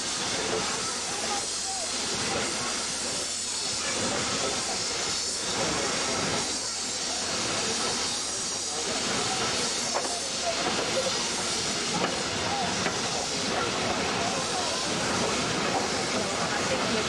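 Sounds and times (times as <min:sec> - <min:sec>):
steam train rushing noise: 0:00.0 - 0:17.0.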